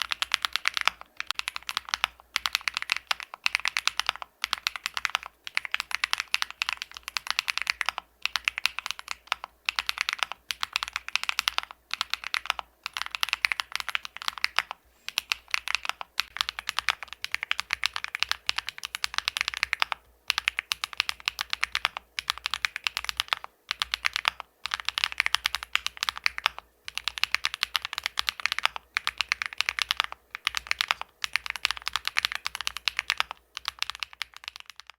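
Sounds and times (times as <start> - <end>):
mechanical keyboard typing: 0.0 - 35.0.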